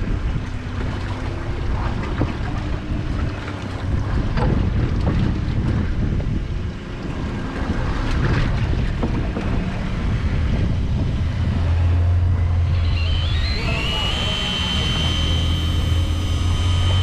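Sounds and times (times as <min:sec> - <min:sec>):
boat engine hum: 0:00.0 - 0:17.0
wind buffeting microphone: 0:00.0 - 0:17.0.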